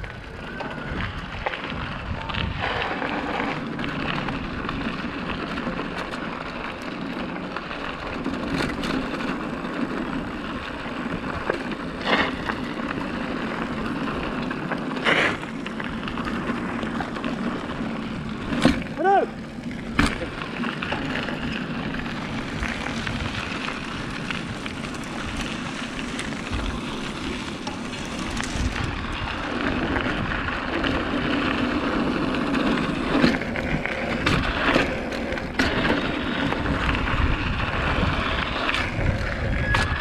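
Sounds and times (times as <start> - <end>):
bicycle rolling: 0.0 - 40.0
wind: 0.0 - 40.0.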